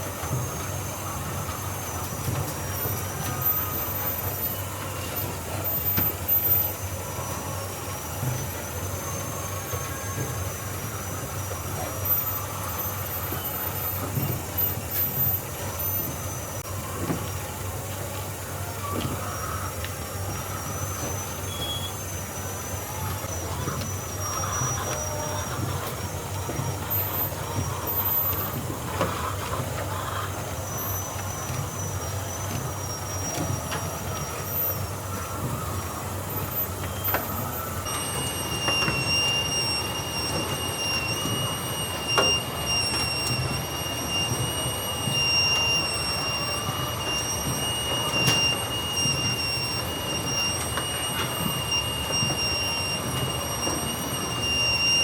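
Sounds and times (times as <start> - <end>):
machinery rumbling: 0.0 - 55.0.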